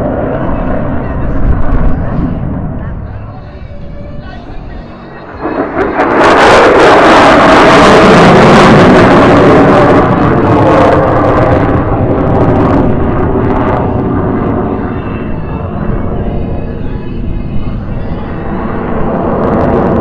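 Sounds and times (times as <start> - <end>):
jet engine pass with crackle: 0.0 - 3.6, 4.2 - 20.0.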